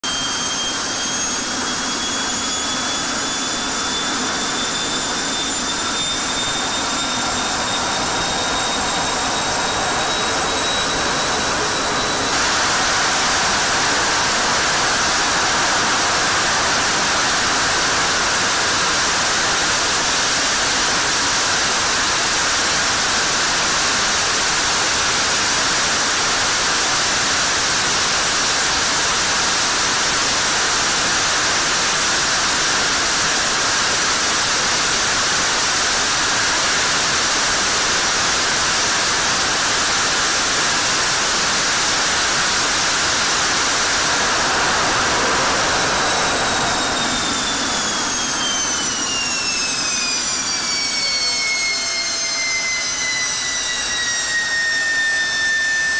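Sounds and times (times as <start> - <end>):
jet engine roaring: 0.1 - 55.9.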